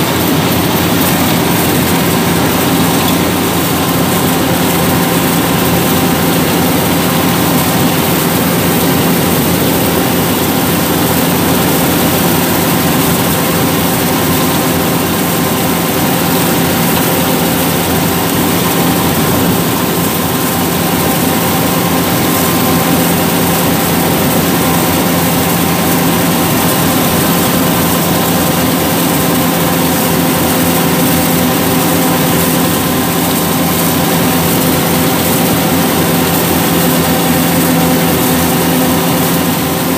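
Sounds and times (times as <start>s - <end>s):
combine harvester engine and threshing: 0.0s - 39.9s.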